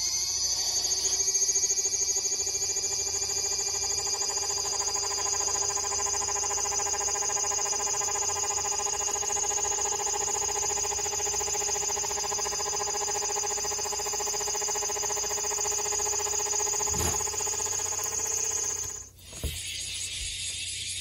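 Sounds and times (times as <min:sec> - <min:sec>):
cicada buzzing: 0:00.0 - 0:21.0.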